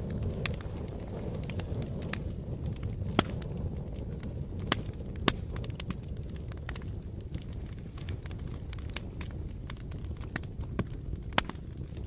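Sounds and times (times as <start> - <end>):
fire crackles and pops: 0.0 - 12.0
wood fire rushing: 0.0 - 12.0.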